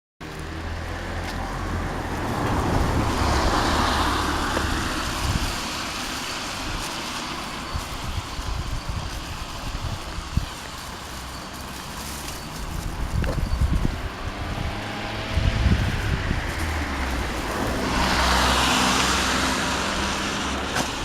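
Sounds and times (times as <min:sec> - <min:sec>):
road vehicle passing: 0:00.2 - 0:21.0
wind buffeting microphone: 0:01.8 - 0:21.0.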